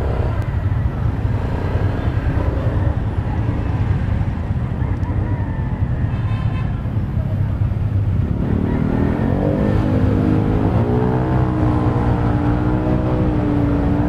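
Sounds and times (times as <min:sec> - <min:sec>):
motorcycles rumbling in slow traffic: 0:00.0 - 0:14.0.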